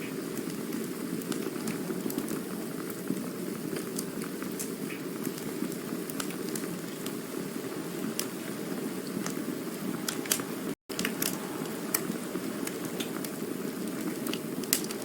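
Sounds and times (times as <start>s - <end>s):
campfire crackling: 0.0s - 15.0s
rush of flames: 0.0s - 15.0s.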